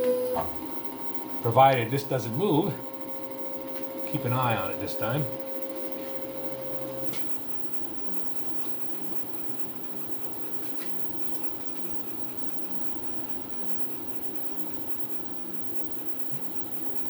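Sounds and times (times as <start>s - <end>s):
milling machine running: 0.0s - 17.0s.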